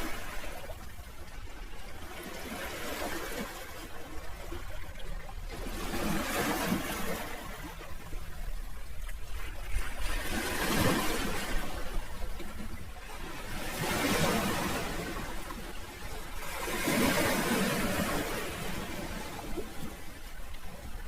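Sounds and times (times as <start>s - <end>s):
sea waves washing in: 0.0s - 21.0s.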